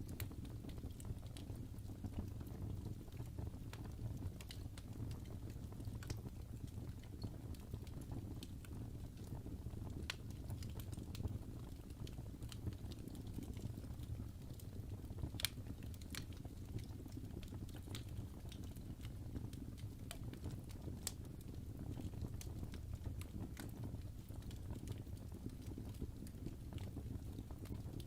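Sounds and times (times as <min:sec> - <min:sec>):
fire crackling and popping: 0:00.0 - 0:28.0
fire flames rumbling: 0:00.0 - 0:28.0.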